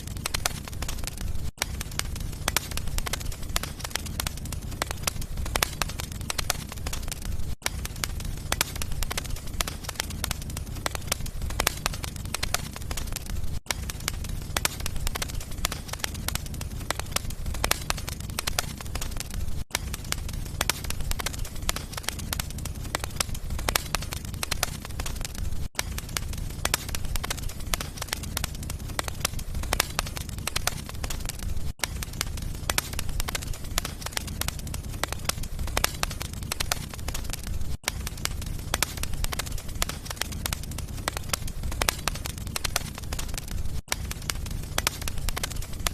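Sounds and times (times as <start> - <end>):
fire crackling and popping: 0.0 - 45.9
low rumble of fire: 0.0 - 45.9.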